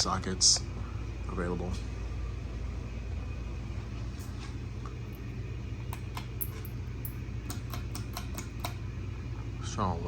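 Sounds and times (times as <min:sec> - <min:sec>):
ceiling fan humming: 0:00.0 - 0:10.0.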